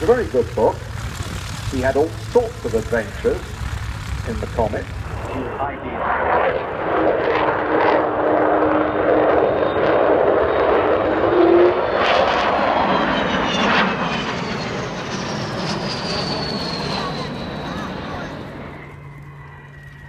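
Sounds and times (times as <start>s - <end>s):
high whining jet tones: 0.0s - 20.0s
jet engines rushing: 0.0s - 20.0s.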